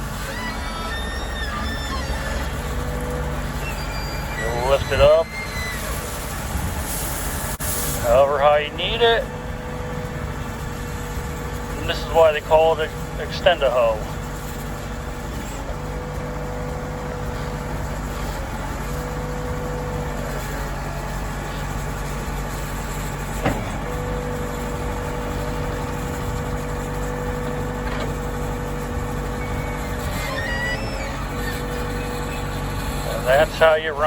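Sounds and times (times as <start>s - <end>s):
backhoe diesel engine running: 0.0s - 34.0s
hydraulic whine: 0.0s - 34.0s.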